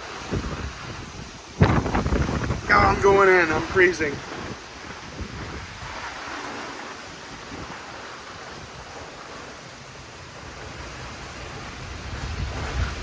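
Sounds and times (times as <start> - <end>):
gusty storm wind rushing: 0.0 - 13.0
wind buffeting microphone: 0.0 - 13.0.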